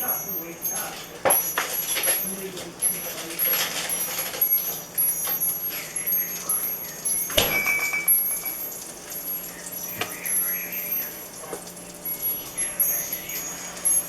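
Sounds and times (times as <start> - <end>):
hard objects clinking: 0.0 - 14.0.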